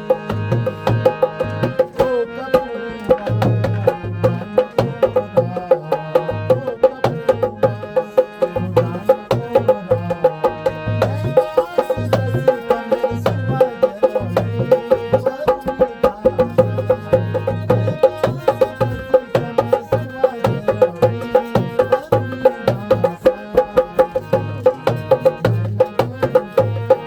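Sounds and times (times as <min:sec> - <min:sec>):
held melody: 0:00.0 - 0:27.0
instrumental folk music: 0:00.0 - 0:27.0
sharp percussion clicks: 0:00.0 - 0:27.0.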